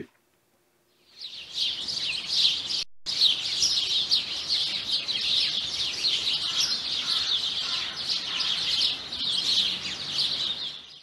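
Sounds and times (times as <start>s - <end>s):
songbirds chirping: 0.8s - 11.0s.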